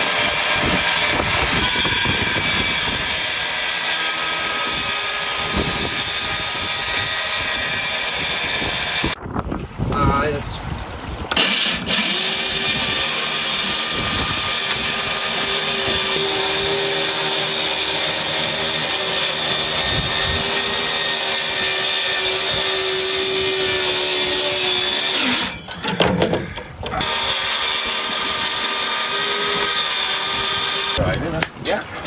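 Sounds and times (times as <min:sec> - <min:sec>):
power tool running: 0:00.0 - 0:09.2, 0:11.3 - 0:26.0, 0:27.0 - 0:31.0.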